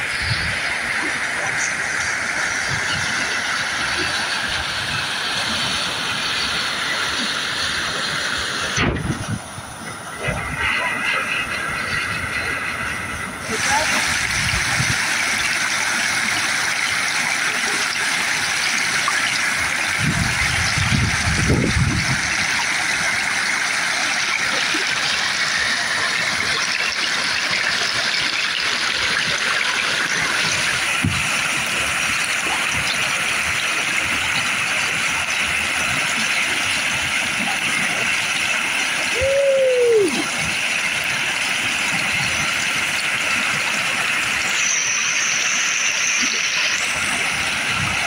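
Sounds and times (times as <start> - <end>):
whitewater rushing: 0.0 - 48.0.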